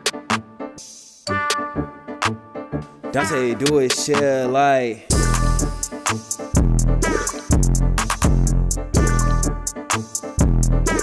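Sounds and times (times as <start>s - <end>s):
music with steady beat: 0.0s - 4.4s, 5.1s - 11.0s.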